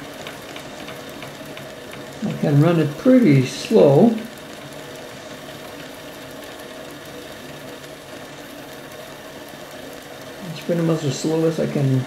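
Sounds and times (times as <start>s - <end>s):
model steam engine running: 0.0s - 12.0s.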